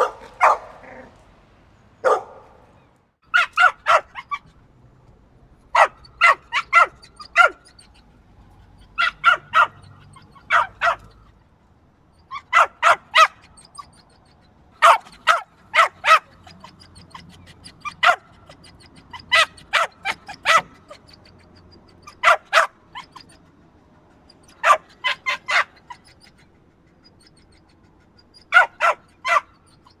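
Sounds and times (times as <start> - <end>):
dog barking: 0.0 - 1.2, 2.0 - 2.7, 3.3 - 4.6, 5.7 - 8.0, 8.8 - 11.3, 12.2 - 23.5, 24.2 - 26.4, 27.0 - 30.0.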